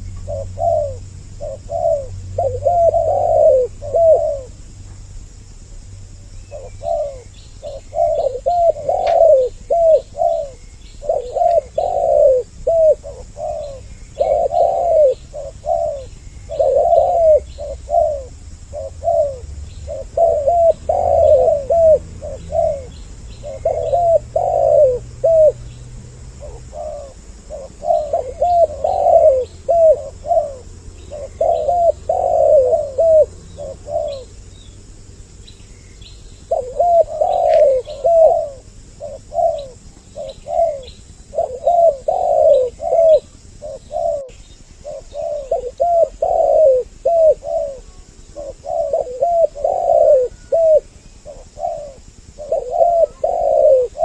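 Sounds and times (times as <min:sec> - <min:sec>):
doves cooing: 0:00.0 - 0:04.7, 0:06.2 - 0:35.2, 0:36.2 - 0:54.0.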